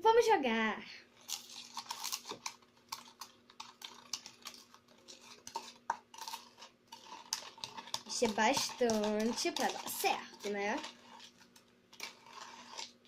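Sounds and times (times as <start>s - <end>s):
spoon stirring and tapping container: 1.8s - 13.0s.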